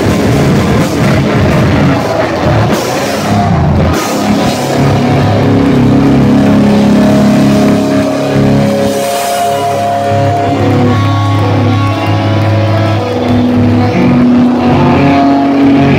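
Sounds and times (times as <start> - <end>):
distorted electric guitars: 0.0 - 15.9
live heavy metal band: 0.0 - 15.9.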